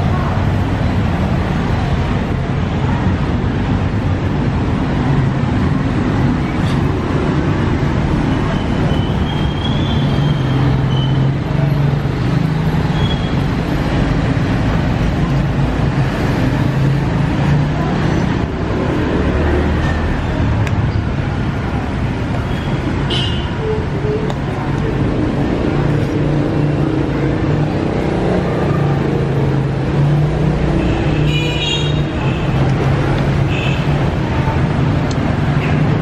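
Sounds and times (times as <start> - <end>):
vehicles passing on road: 0.0 - 36.0.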